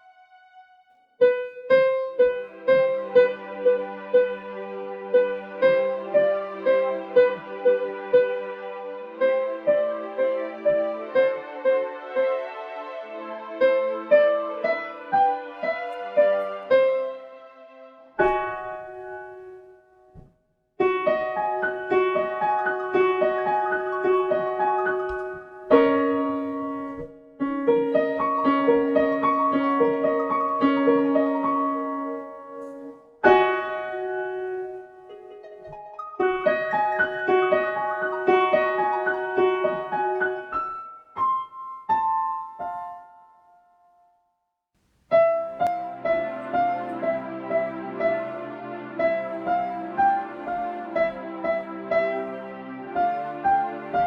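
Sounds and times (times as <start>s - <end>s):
piano melody: 0.0s - 44.2s, 45.1s - 54.0s.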